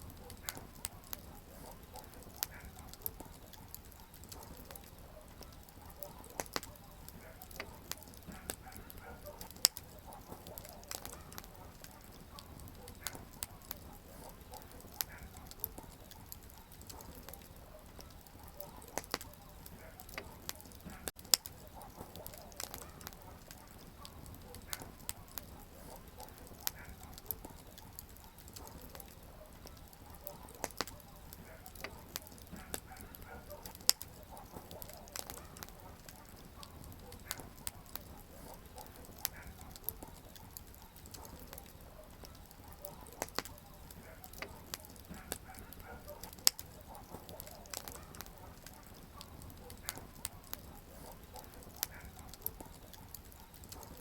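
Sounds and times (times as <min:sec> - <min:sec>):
campfire hissing and crackling: 0:00.0 - 0:54.0
firewood popping: 0:00.0 - 0:54.0.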